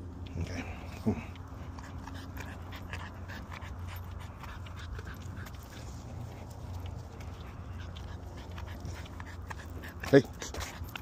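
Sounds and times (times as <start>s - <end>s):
paw steps on concrete: 0.1s - 11.0s
puppy panting: 0.1s - 11.0s.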